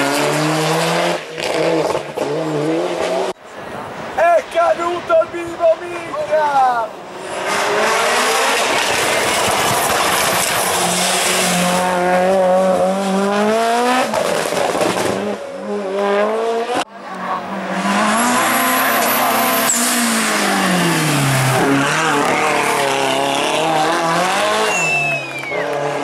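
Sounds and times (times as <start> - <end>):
racing car engines at full throttle: 0.0 - 26.0.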